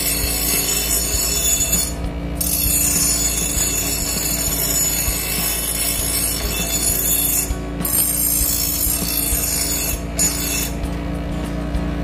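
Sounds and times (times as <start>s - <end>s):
bench grinder grinding blade: 0.0s - 11.2s
grinder motor hum: 0.0s - 12.0s.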